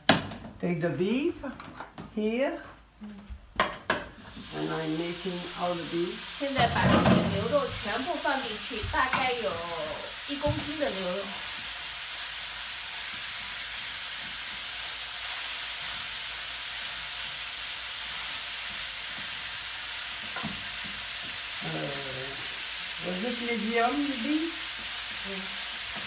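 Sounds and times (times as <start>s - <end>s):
meat sizzling in a frying pan: 4.0s - 26.0s.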